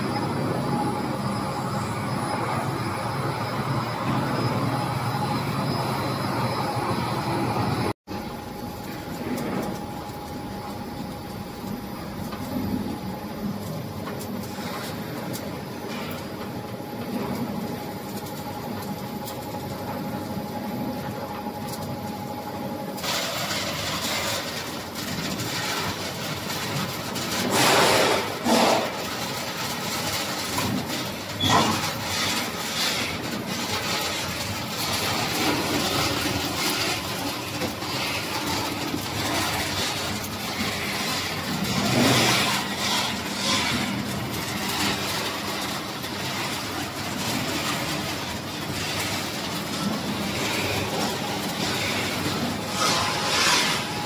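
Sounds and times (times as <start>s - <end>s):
machinery hum with whine: 0.0s - 54.0s.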